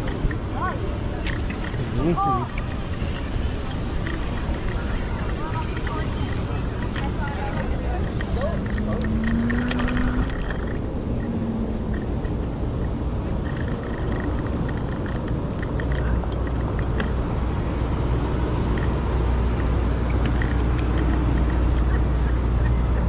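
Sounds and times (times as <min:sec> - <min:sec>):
scooter rolling over pavement: 0:00.0 - 0:22.1.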